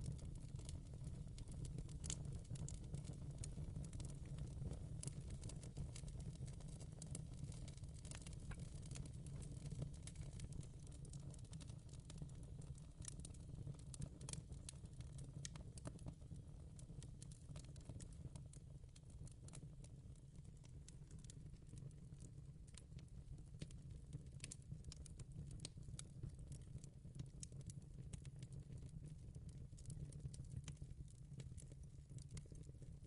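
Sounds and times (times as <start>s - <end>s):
fire crackling in fireplace: 0.0s - 33.0s.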